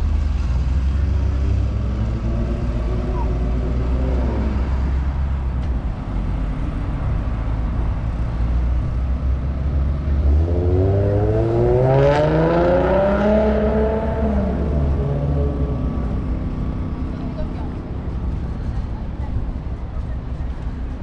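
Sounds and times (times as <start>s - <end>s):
low traffic rumble: 0.0s - 21.0s
vehicle engine accelerating: 0.0s - 21.0s.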